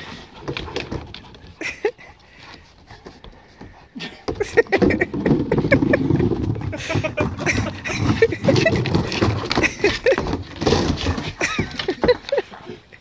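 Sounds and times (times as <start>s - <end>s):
skateboard rolling on wood: 0.0s - 13.0s.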